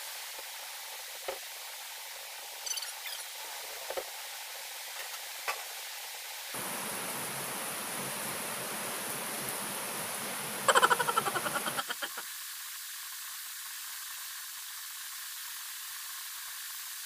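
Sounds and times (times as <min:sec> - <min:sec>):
room noise hiss: 0:00.0 - 0:17.0.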